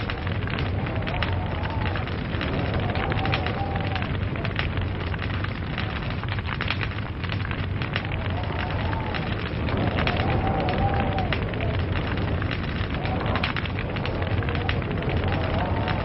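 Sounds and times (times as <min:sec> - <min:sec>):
log fire crackling and popping: 0:00.0 - 0:16.0
low rumble of flames: 0:00.0 - 0:16.0.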